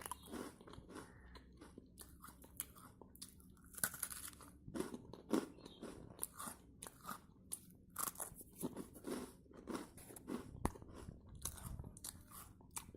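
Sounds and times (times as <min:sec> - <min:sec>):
crunchy chewing: 0:00.0 - 0:12.9.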